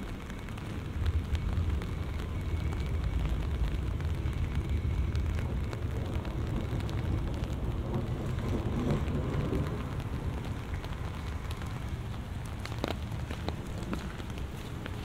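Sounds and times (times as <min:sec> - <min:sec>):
low roll of thunder: 0:00.0 - 0:14.5
close raindrop hits: 0:00.0 - 0:15.0
heavy rain falling: 0:00.0 - 0:15.0.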